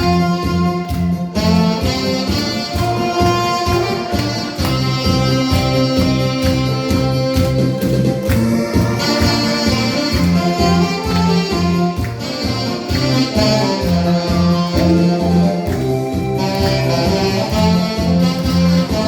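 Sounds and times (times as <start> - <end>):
band accompaniment with bass beat: 0.0 - 19.0
saxophones playing a melody: 0.0 - 19.0.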